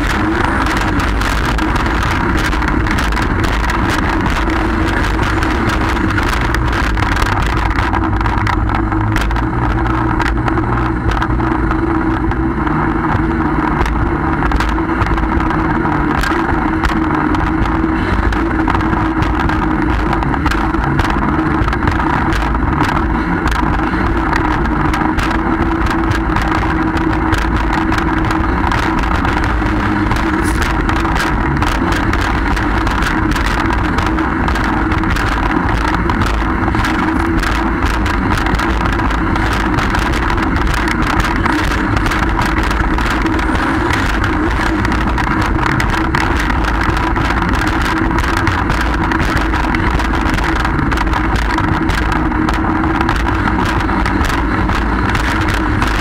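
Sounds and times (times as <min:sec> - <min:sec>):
jet ski engine droning: 0:00.0 - 0:56.0
wind rumble: 0:00.0 - 0:56.0.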